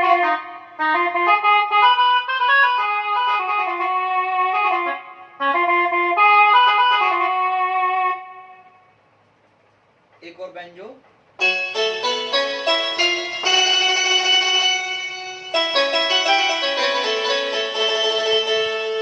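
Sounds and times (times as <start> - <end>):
electronic keyboard melody: 0.0 - 9.0, 11.4 - 19.0.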